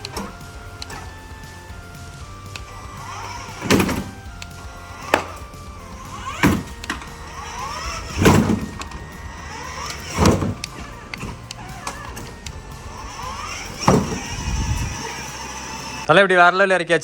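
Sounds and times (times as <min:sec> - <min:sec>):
electric motor whine: 0:00.0 - 0:16.1
toy jeep thudding down stairs: 0:00.0 - 0:16.1.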